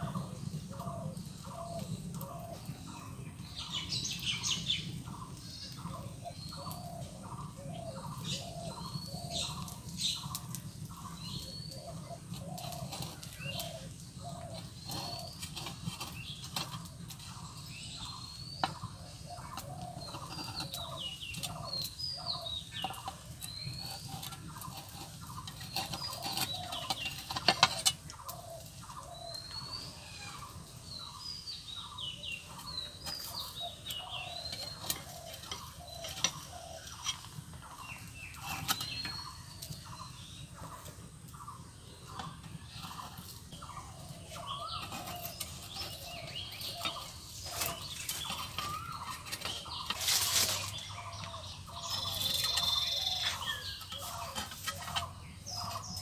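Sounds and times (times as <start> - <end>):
small birds chirping: 0.0 - 56.0
chickens clucking: 4.8 - 56.0.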